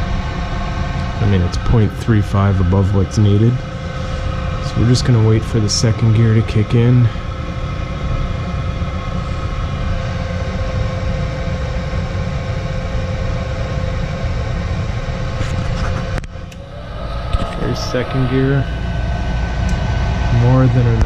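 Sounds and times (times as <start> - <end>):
furnace motor hum: 0.0 - 21.0.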